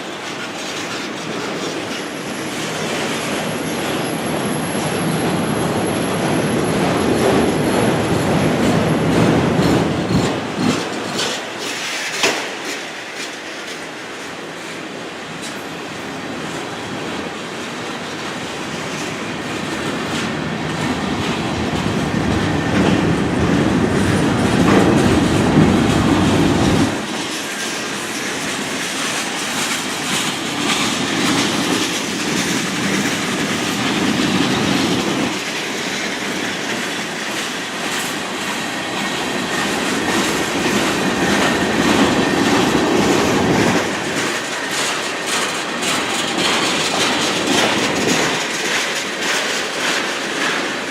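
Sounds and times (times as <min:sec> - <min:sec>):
deep train rumble: 0:00.0 - 0:50.9
train wheels clicking on rails: 0:00.0 - 0:50.9.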